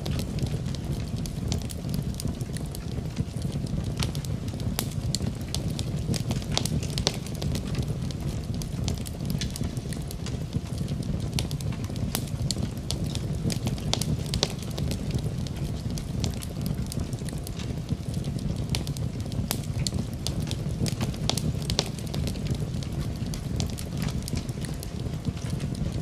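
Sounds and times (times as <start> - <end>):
fire burning in a fireplace: 0.0 - 26.0.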